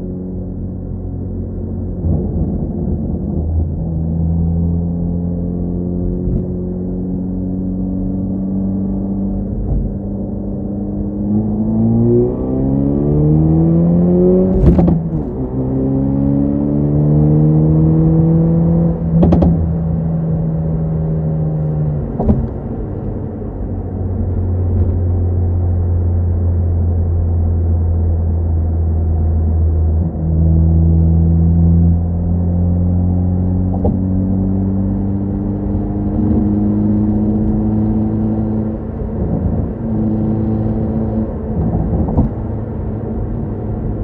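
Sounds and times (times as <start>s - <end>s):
car engine droning and revving: 0.0s - 44.0s.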